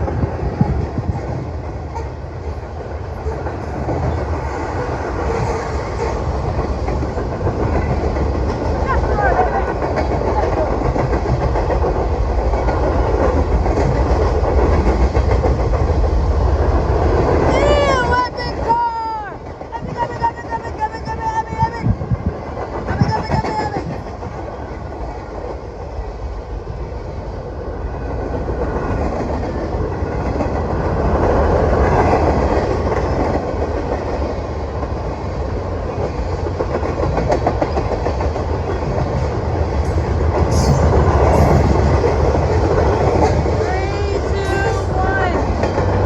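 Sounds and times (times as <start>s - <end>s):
freight train wheels clattering: 0.0s - 26.7s, 28.1s - 46.0s.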